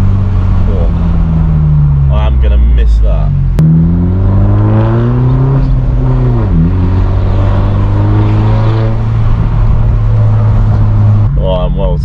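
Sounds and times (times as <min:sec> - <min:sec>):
loud car exhaust drone: 0:00.0 - 0:11.4.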